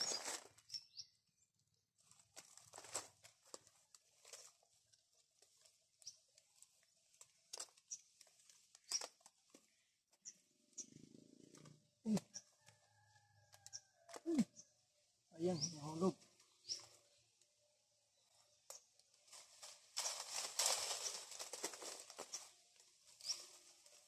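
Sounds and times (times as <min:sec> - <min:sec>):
leaves and twigs rustling: 0:00.0 - 0:01.0, 0:02.0 - 0:24.0.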